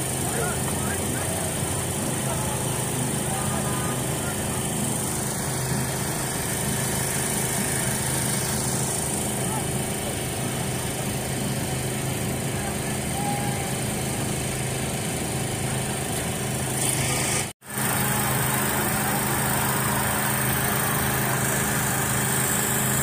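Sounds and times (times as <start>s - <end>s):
crowd noise: 0.0s - 16.6s, 17.6s - 23.0s
car engines idling: 0.0s - 23.0s.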